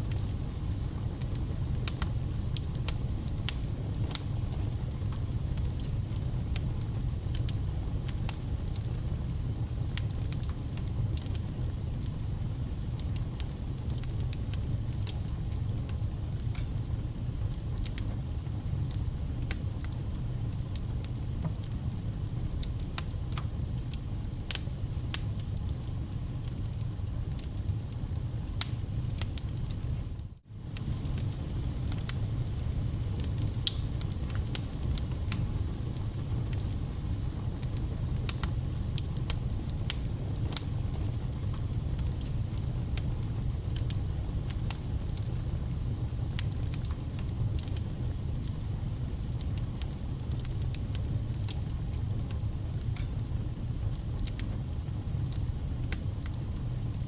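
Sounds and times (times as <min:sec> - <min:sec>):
low rumble of flames: 0:00.0 - 0:57.0
logs crackling and popping: 0:01.1 - 0:09.3, 0:10.0 - 0:29.8, 0:30.7 - 0:45.8, 0:46.4 - 0:57.0.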